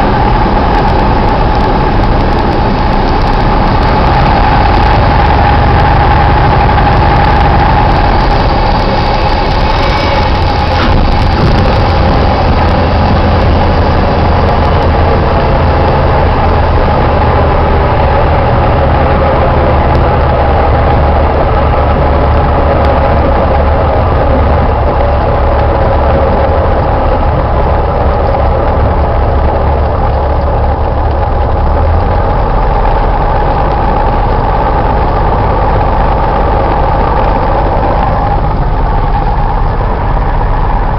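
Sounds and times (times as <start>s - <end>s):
airplane engine and propeller: 0.0s - 40.9s.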